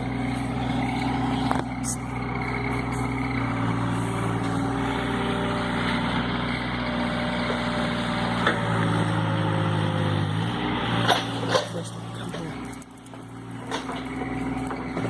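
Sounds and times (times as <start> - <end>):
excavator diesel engine: 0.0 - 15.0.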